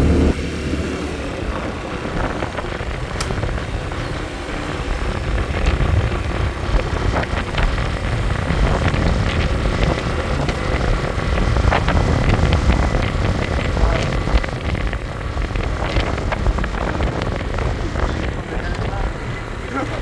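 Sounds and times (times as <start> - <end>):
scooter engine and tyre noise: 0.0 - 20.0
wind rumble on microphone: 0.0 - 20.0.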